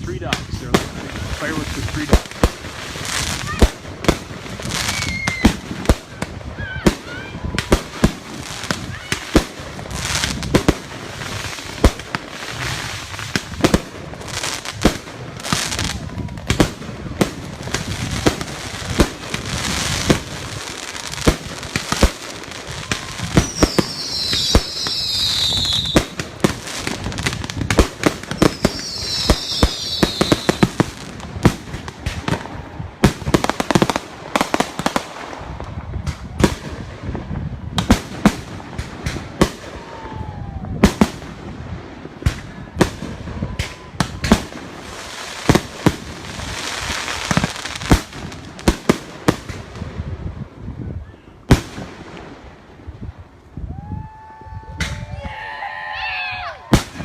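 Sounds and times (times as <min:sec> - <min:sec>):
fireworks booming bangs: 0:00.0 - 0:55.1, 0:56.6 - 0:57.0
fireworks crackling: 0:00.0 - 0:57.0.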